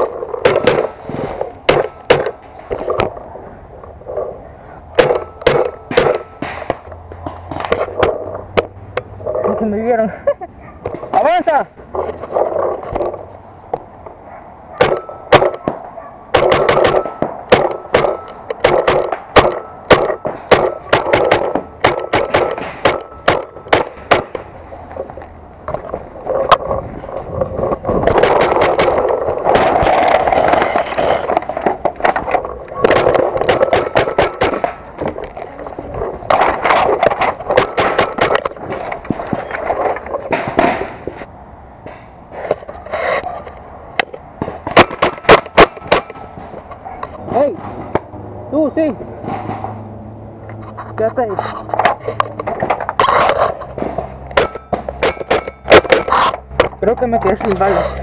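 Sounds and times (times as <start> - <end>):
handling and movement noise: 0.0 - 58.0.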